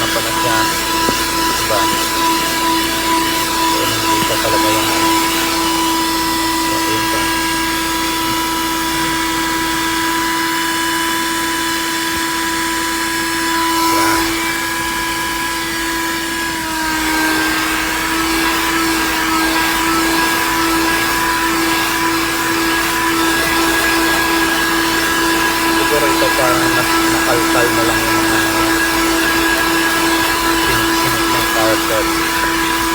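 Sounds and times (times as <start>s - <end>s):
car vacuum cleaner motor whine: 0.0s - 32.9s.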